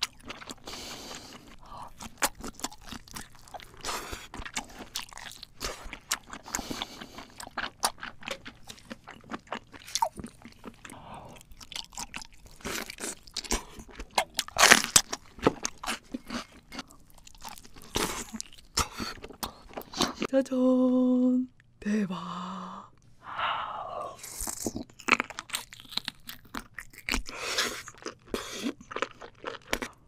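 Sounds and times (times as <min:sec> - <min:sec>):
wet chewing and sucking: 0:00.0 - 0:20.3, 0:24.2 - 0:30.0.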